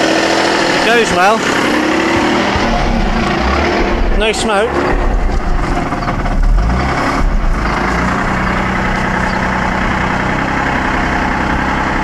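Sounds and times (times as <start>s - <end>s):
rotary engine idling: 0.1s - 12.0s.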